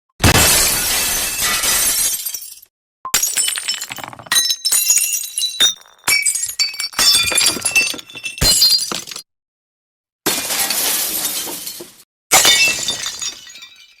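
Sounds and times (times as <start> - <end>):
glass smashing with tinkling shards: 0.4 - 8.9, 10.6 - 14.0.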